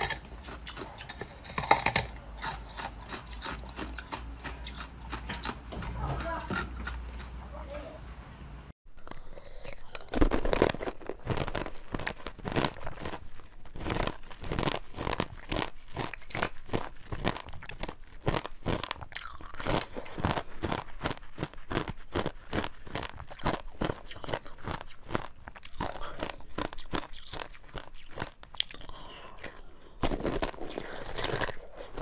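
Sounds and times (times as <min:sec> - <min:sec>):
ice being chewed: 0:00.0 - 0:07.4, 0:08.9 - 0:32.0.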